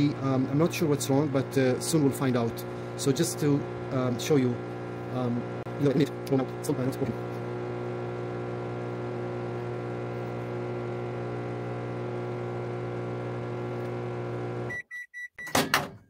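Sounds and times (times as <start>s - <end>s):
microwave oven humming: 0.0s - 14.8s.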